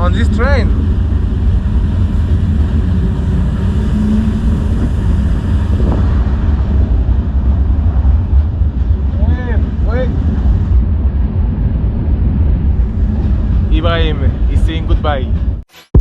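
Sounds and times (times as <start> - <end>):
freight train rumbling: 0.0 - 15.6.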